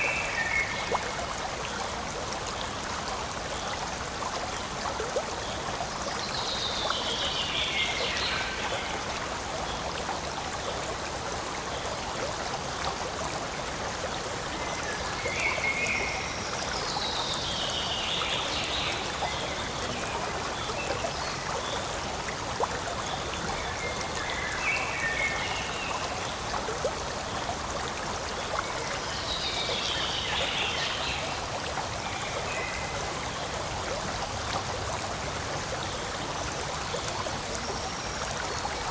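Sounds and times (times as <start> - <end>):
stream running over stones: 0.0 - 38.9.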